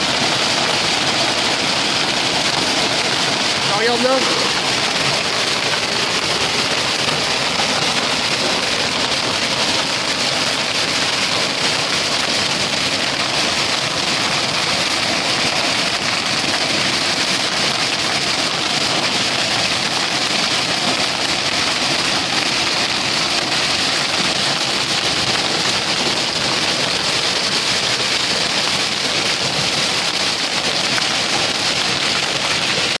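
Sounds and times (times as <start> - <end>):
hail and rain pelting pavement: 0.0 - 33.0.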